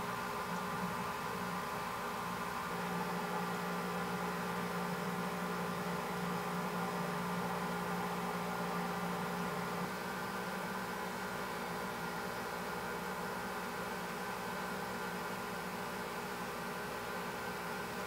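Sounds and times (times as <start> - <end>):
machine hum with hiss: 0.0 - 18.0.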